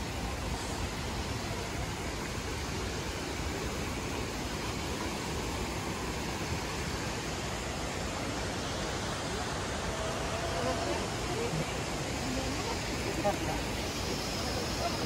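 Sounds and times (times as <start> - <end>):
water rushing over cascades: 0.0 - 15.0.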